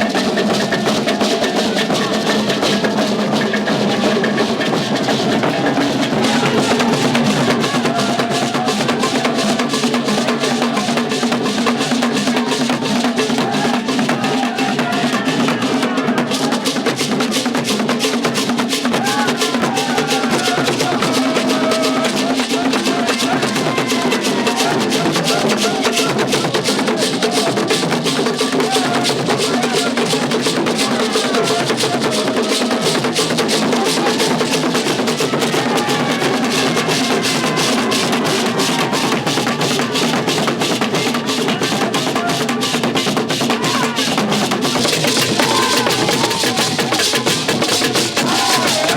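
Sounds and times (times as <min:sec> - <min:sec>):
fast dense drumming: 0:00.0 - 0:48.9.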